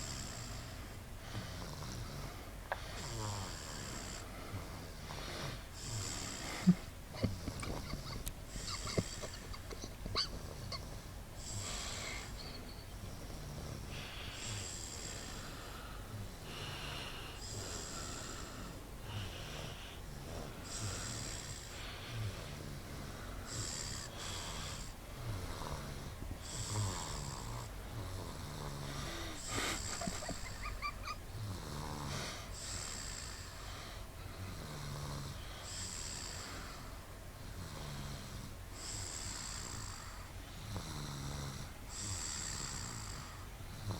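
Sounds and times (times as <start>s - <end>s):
rasping snoring: 0.0s - 12.4s, 13.0s - 30.6s, 31.4s - 33.6s, 34.4s - 36.8s, 37.5s - 43.9s.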